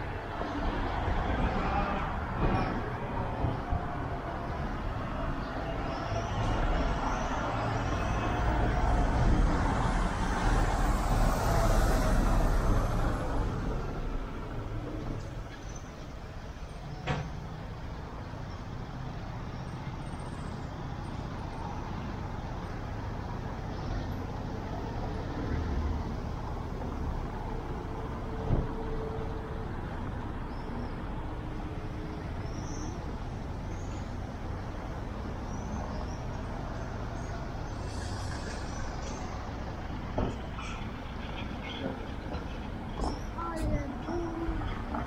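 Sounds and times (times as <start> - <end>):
low traffic rumble: 0.0 - 45.0.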